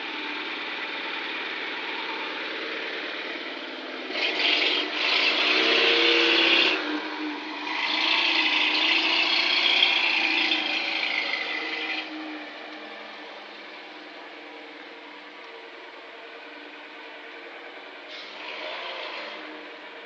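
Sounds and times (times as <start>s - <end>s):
engine revving: 0.0s - 15.2s, 15.9s - 20.0s
car exhaust rushing: 0.0s - 20.0s.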